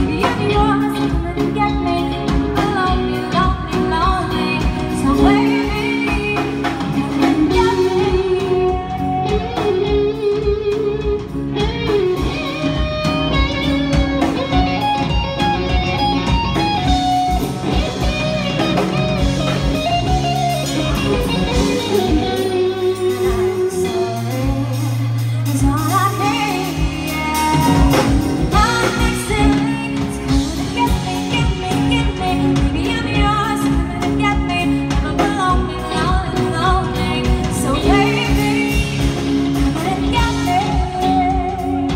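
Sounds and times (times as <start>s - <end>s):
live band playing: 0.0s - 41.9s
woman singing lead: 0.0s - 41.9s.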